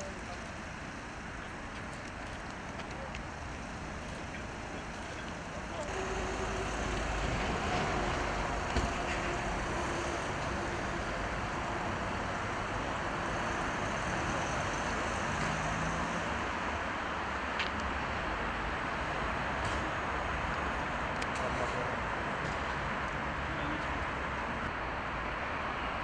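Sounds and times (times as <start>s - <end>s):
van engine running: 0.0s - 22.7s
outdoor noise haze: 0.0s - 26.0s.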